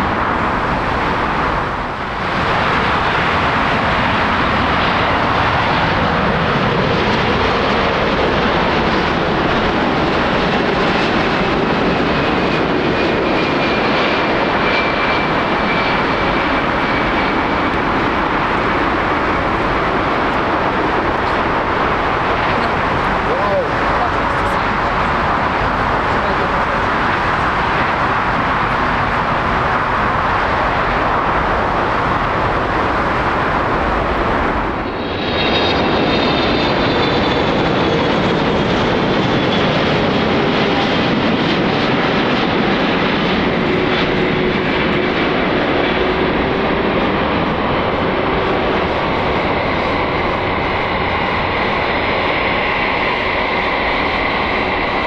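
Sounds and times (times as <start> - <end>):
high turbine whine: 0.0 - 55.0
jet engines roaring: 0.0 - 55.0.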